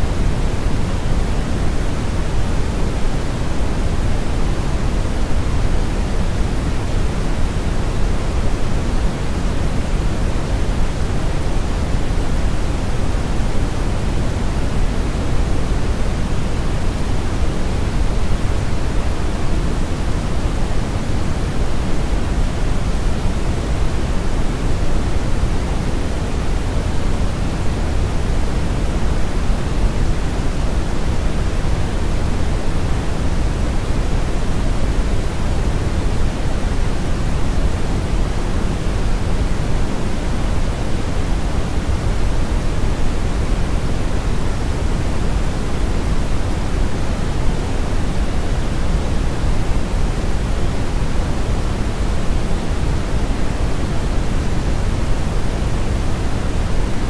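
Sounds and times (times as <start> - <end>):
brown noise rushing hiss: 0.0 - 57.0.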